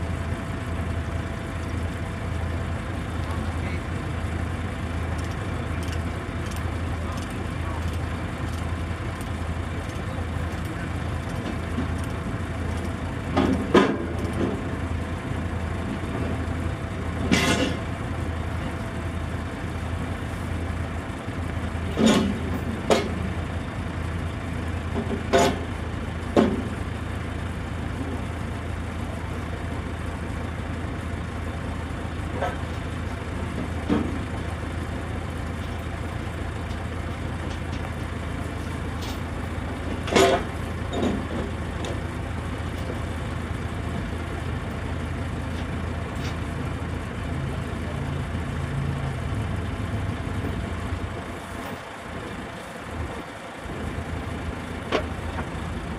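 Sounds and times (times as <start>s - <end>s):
heavy engine idling: 0.0s - 55.9s.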